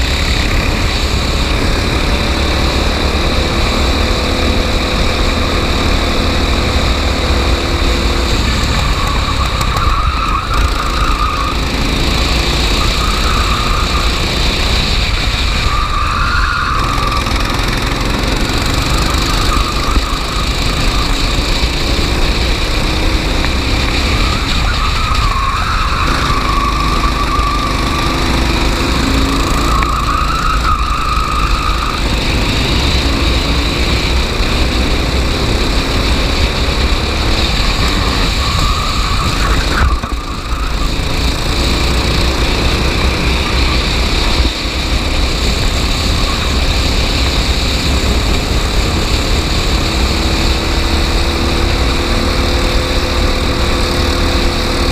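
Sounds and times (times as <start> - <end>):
racing kart engine accelerating: 0.0 - 54.9.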